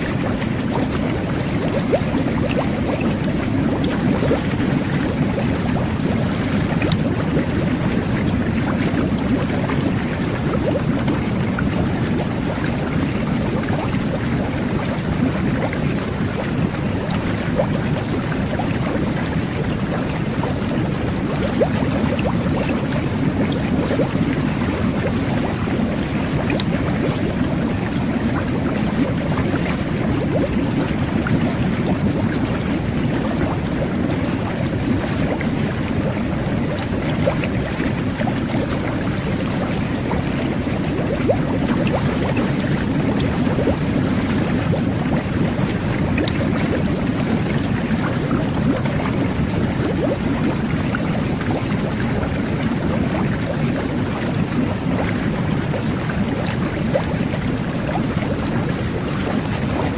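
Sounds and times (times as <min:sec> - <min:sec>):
water jets churning and bubbling: 0:00.0 - 0:59.9.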